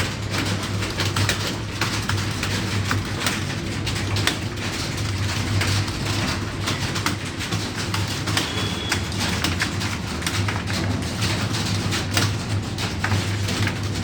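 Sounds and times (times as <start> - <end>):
keyboards clattering: 0.0 - 14.0.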